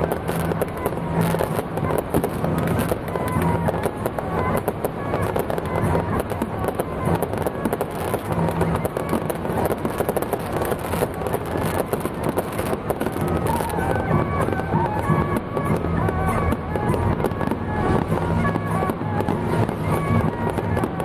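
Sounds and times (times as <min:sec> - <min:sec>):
firecrackers crackling: 0:00.0 - 0:21.0
music playing: 0:00.0 - 0:21.0.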